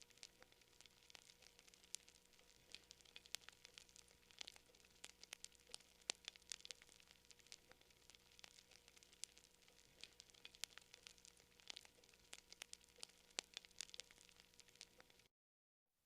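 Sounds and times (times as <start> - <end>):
campfire crackling: 0.0 - 15.3.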